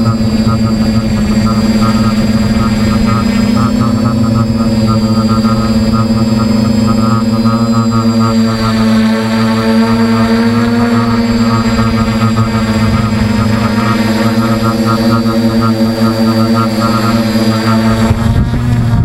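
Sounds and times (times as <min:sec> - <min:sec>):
electric motor and propeller hum: 0:00.0 - 0:19.0.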